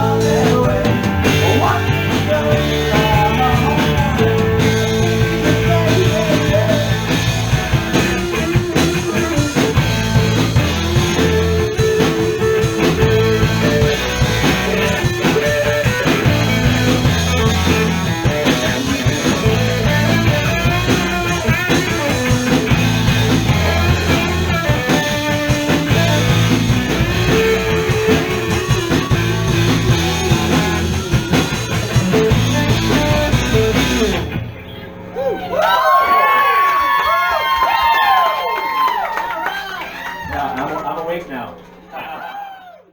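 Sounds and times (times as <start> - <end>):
rock band with guitar and drums: 0.0 - 40.6.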